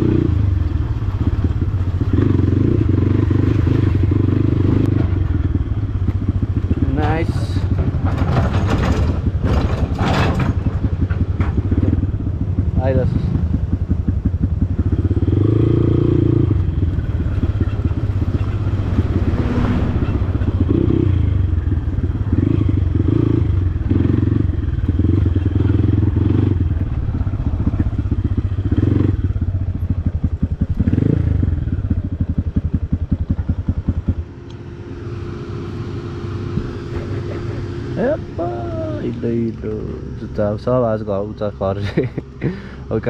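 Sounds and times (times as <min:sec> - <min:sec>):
dirt bike engine revving: 0:00.0 - 0:07.8, 0:11.6 - 0:40.6.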